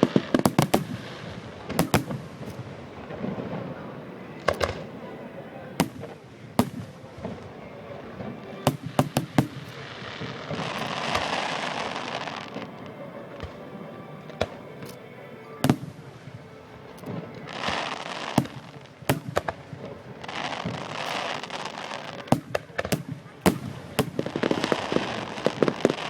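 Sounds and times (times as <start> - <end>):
fireworks bangs: 0.0 - 26.0
fireworks hissing and crackling: 0.0 - 26.0.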